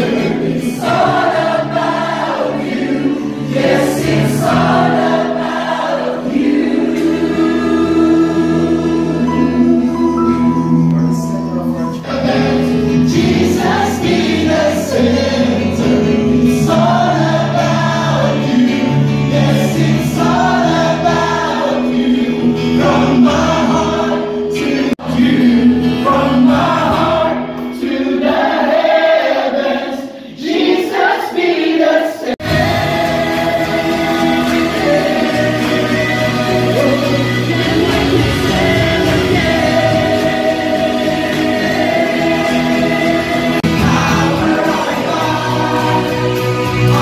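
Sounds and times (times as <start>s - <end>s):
acoustic guitar: 0.0s - 28.4s, 32.4s - 47.0s
keyboard accompaniment: 0.0s - 29.8s, 32.4s - 47.0s
people singing together: 0.0s - 47.0s.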